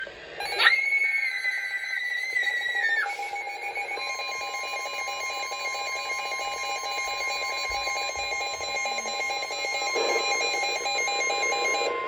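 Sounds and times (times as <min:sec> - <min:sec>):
high held tone: 0:00.4 - 0:12.0
rapidly pulsing alarm tone: 0:00.4 - 0:12.0
steady alarm tone: 0:00.4 - 0:12.0.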